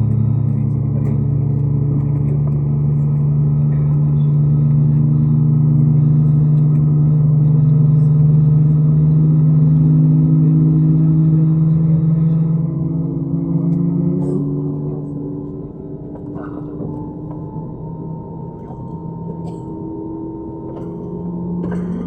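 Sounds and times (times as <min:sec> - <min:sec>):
jet engines drone in cabin: 0:00.0 - 0:22.0.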